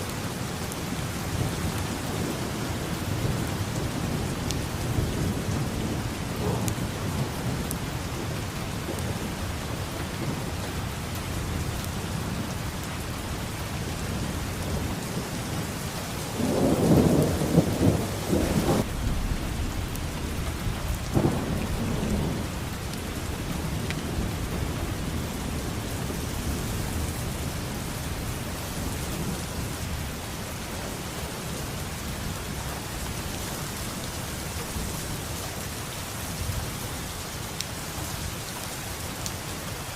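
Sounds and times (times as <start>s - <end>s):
heavy rain falling: 0.0s - 39.9s
thunder rumbling: 1.1s - 33.4s.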